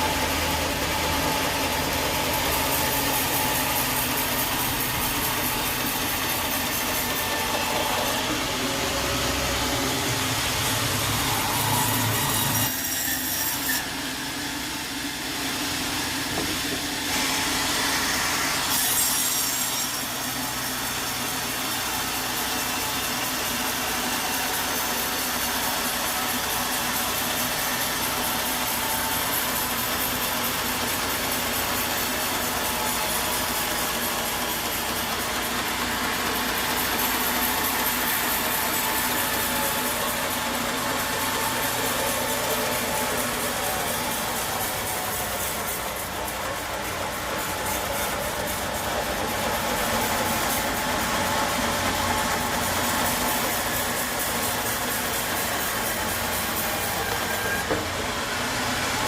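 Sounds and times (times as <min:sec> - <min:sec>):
saw cutting through wood: 0:00.0 - 0:59.0.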